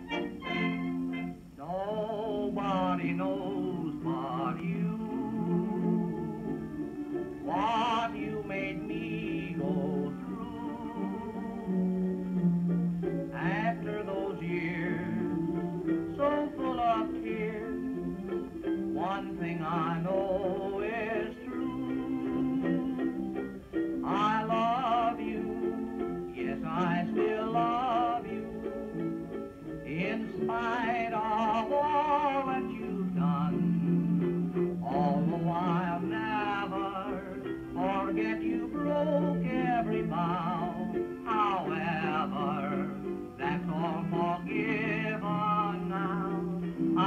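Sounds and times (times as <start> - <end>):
ukulele strummed chords: 0.0 - 47.0
man singing ballad: 1.6 - 6.4, 7.4 - 11.5, 13.3 - 18.0, 18.9 - 23.3, 24.0 - 28.7, 29.8 - 47.0.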